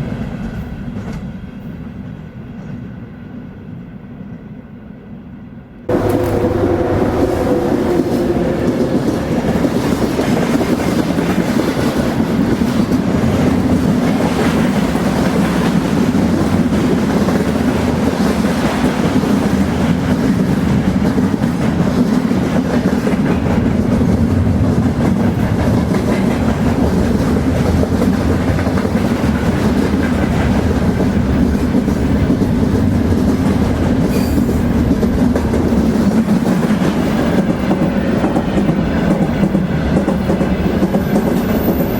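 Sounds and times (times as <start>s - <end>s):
train rumbling along track: 0.0s - 41.9s.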